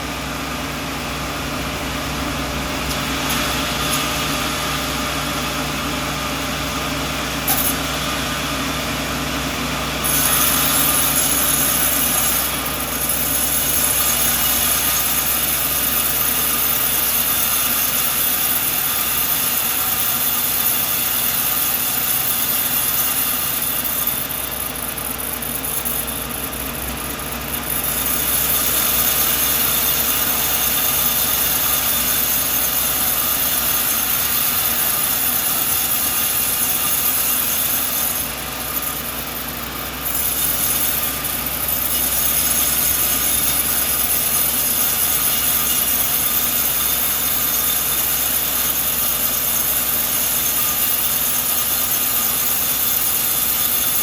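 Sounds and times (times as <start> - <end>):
sawmill blade cutting log: 0.0 - 54.0.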